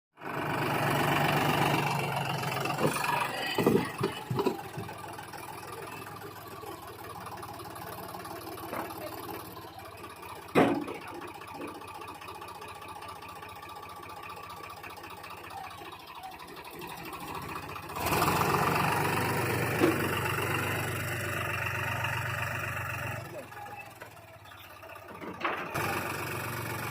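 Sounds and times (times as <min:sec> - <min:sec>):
tractor diesel engine running: 0:00.2 - 0:26.9.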